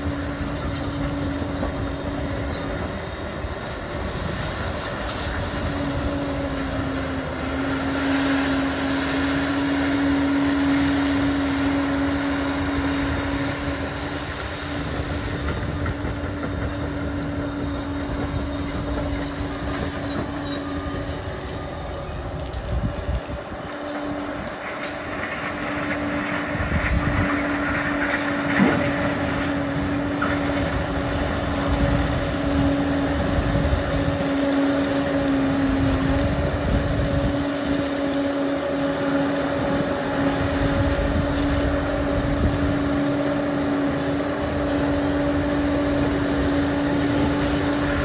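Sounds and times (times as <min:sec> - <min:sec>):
bulldozer engine droning: 0:00.0 - 0:48.0.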